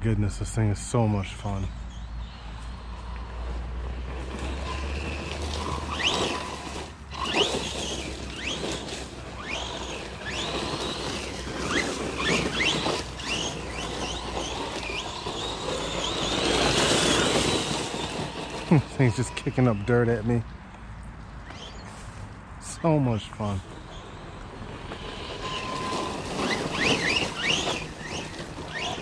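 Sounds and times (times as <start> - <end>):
electric motor whining: 1.9 - 20.4, 22.8 - 29.0
tyres scrabbling over dirt: 2.2 - 20.5, 21.4 - 29.0.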